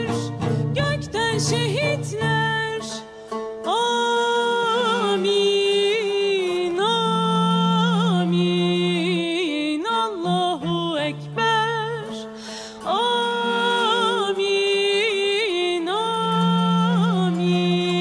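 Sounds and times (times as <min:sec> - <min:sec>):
cello: 0:00.0 - 0:18.0
plucked lute: 0:00.0 - 0:18.0
woman singing: 0:00.0 - 0:18.0.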